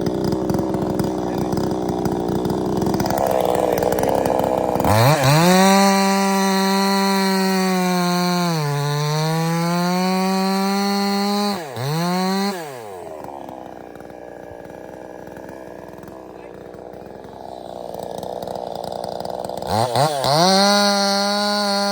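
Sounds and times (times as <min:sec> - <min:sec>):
chainsaw at full throttle: 0:00.0 - 0:21.9.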